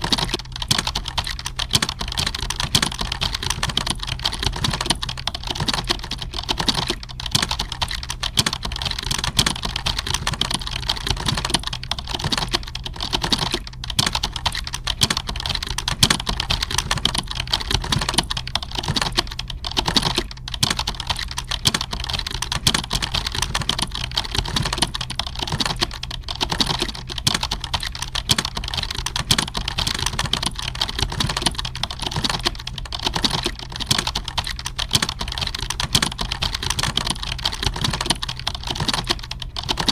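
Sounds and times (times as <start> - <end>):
fast typing on keyboards: 0.0 - 39.9
steady low hum: 0.0 - 39.9.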